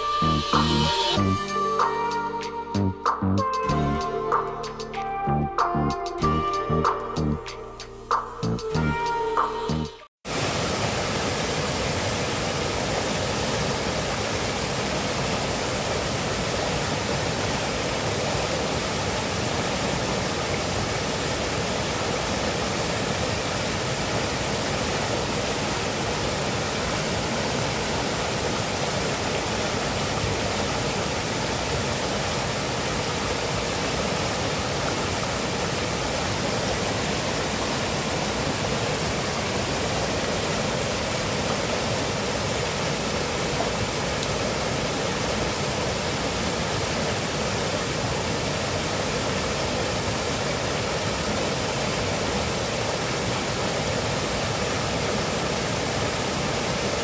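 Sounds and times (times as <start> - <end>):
waterfall rushing over rocks: 10.3 - 57.0.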